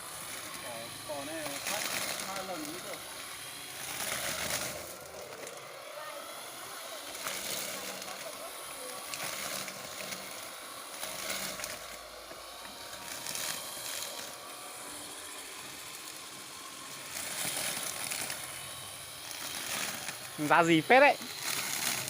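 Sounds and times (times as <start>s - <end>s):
electric brush cutter motor whir: 0.0s - 22.0s
hiss of cut grass: 0.0s - 22.0s.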